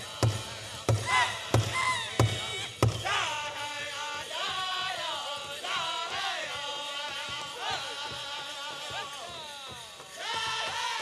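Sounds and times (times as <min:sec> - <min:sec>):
big drum steady beat: 0:00.0 - 0:11.0
men singing in unison: 0:00.0 - 0:11.0.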